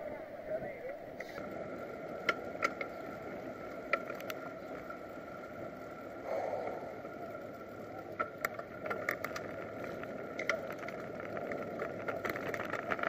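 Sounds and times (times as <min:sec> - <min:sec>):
faint steady whine: 0:00.0 - 0:13.0
wind and tyres on road: 0:00.0 - 0:13.0
bicycle clicks and rattles: 0:01.4 - 0:13.0.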